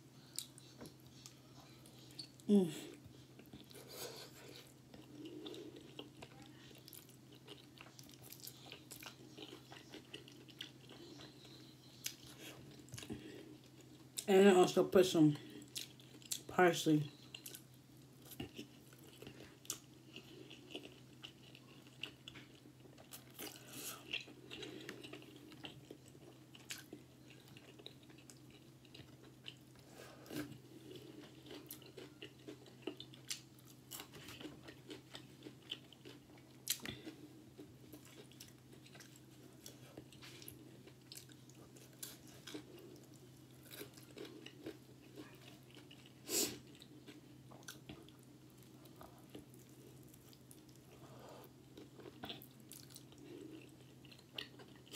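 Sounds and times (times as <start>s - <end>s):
person chewing: 0.2s - 14.3s, 15.4s - 16.5s, 17.1s - 54.9s.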